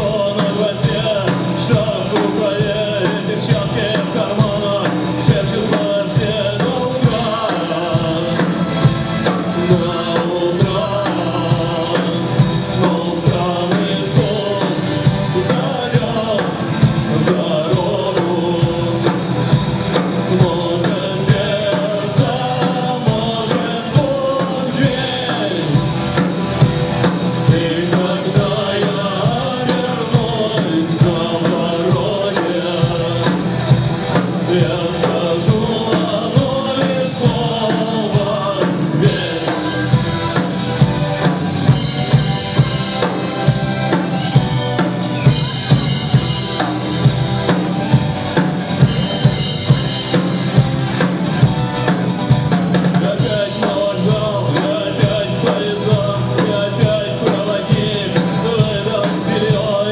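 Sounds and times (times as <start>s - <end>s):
drum kit beat: 0.0s - 59.9s
live rock band: 0.0s - 59.9s
person singing: 0.0s - 59.9s.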